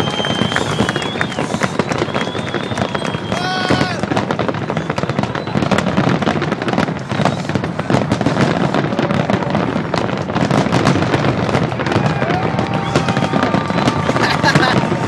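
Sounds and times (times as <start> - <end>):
fireworks bursts and crackling: 0.0 - 15.0.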